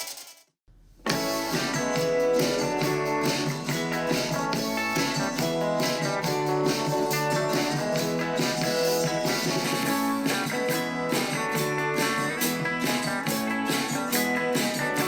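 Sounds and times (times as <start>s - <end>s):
guitar song through small speaker: 1.1s - 15.0s.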